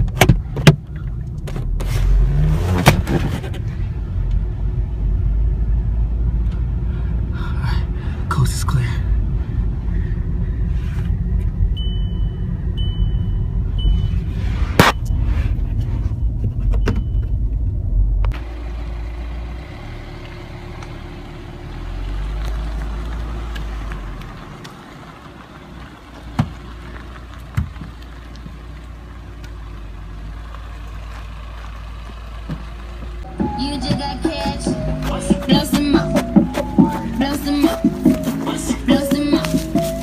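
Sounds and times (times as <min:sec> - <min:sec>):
car running on road: 0:00.0 - 0:40.0
road and engine rumble in car: 0:00.0 - 0:40.0.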